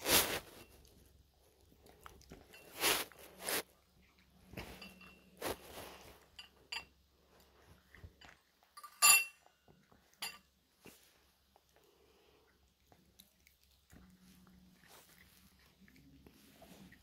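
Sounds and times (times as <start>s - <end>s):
cat chewing food: 0.4s - 8.8s, 9.4s - 17.0s.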